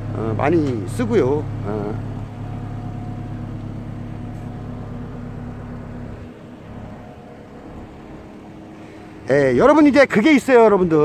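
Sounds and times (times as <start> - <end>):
diesel engine humming: 0.0 - 11.0.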